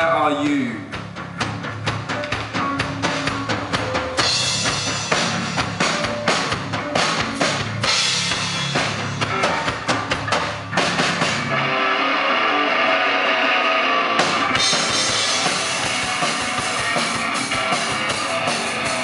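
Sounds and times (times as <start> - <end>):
distorted electric guitar: 0.0 - 19.0
electric bass: 0.0 - 19.0
drum kit hits: 0.5 - 11.8, 14.2 - 19.0.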